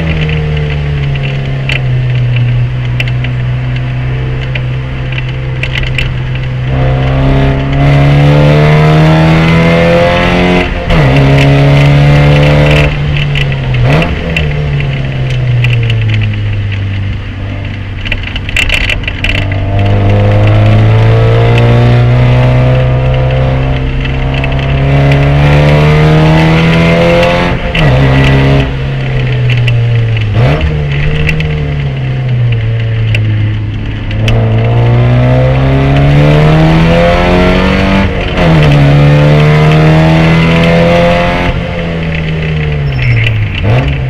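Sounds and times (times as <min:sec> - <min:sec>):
race car engine under load: 0:00.0 - 0:44.0.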